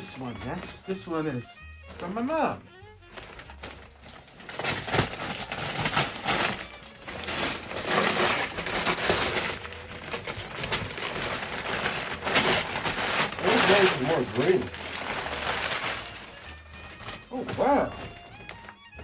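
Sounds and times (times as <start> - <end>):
wrapping paper tearing and crumpling: 0.0 - 19.0.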